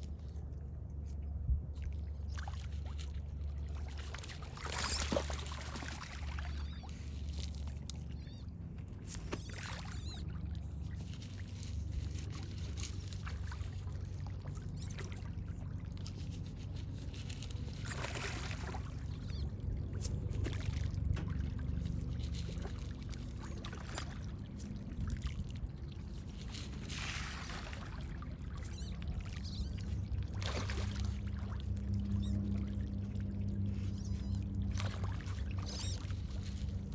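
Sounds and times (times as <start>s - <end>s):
low hum: 0.0s - 36.9s
water splashing and trickling: 1.7s - 36.9s.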